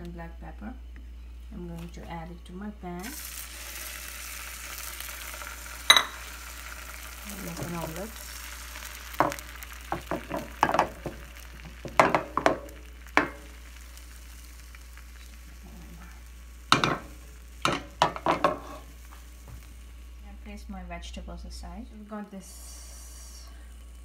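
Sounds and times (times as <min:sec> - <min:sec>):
eggs sizzling in a pan: 0:01.4 - 0:24.0.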